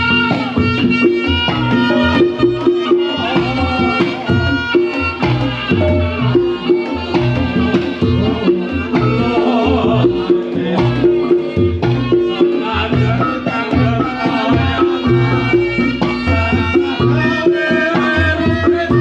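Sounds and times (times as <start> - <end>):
fast hand drumming: 0.0 - 19.0
reedy melody line: 0.0 - 19.0.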